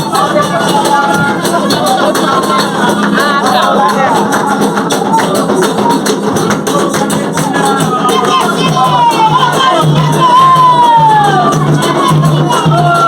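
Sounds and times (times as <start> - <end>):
hand percussion rhythm: 0.0 - 13.0
voices singing call-and-response chant: 0.0 - 13.0.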